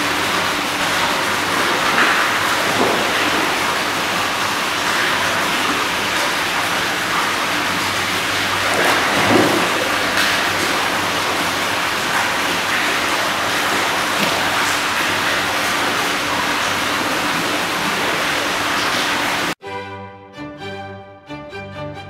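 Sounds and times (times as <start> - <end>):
water lapping and sloshing: 0.0 - 19.6
water pouring from a spout: 0.0 - 19.6.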